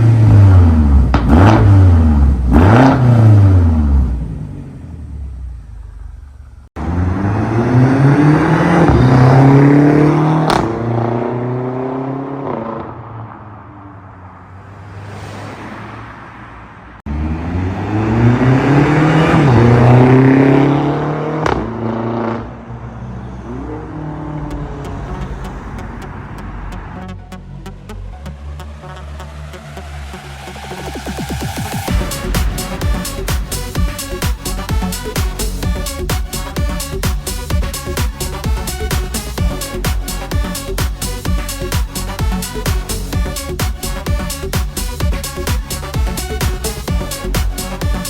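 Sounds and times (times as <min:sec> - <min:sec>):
car exhaust accelerating hard: 0:00.0 - 0:13.7, 0:17.1 - 0:48.0.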